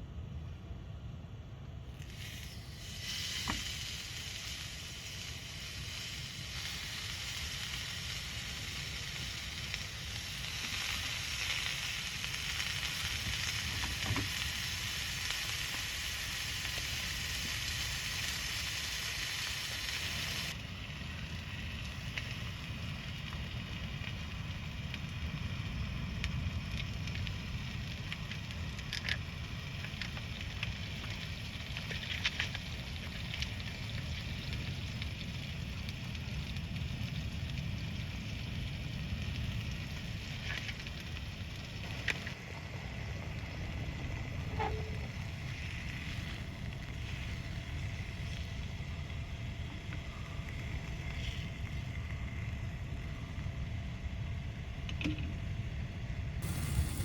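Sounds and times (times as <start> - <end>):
campfire crackles: 1.6 - 57.0
food sizzling: 2.1 - 51.6, 56.4 - 57.0.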